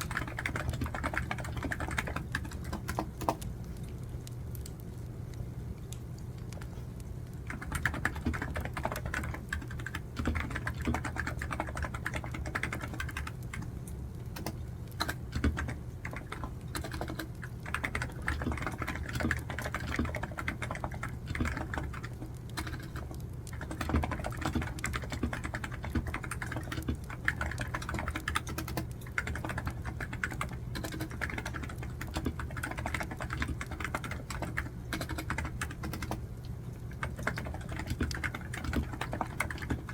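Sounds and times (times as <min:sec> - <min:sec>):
computer keyboard typing: 0:00.0 - 0:03.9, 0:07.4 - 0:39.9
steady low hum: 0:00.0 - 0:39.9.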